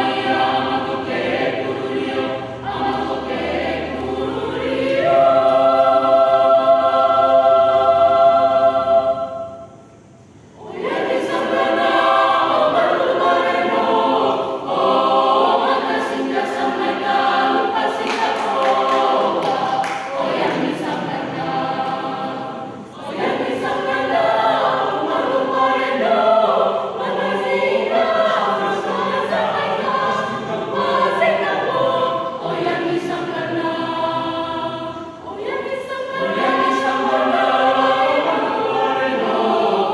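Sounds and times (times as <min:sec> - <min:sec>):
mixed choir singing a cappella: 0:00.0 - 0:39.9.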